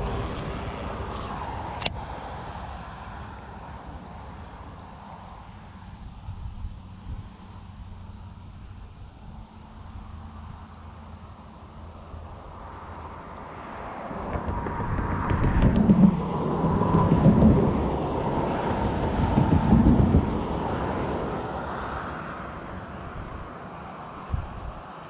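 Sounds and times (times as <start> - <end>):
vehicle passing on road: 0.0 - 25.0.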